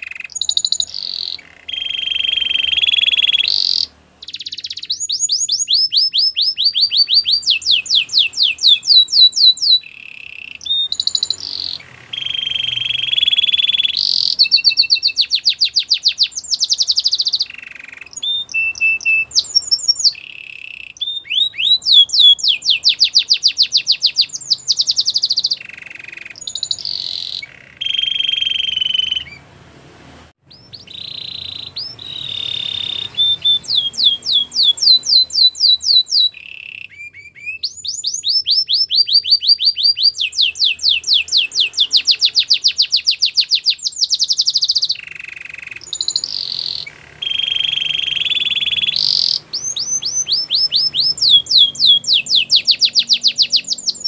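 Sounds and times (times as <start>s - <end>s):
canary singing trills: 0.0s - 29.6s, 30.4s - 54.0s.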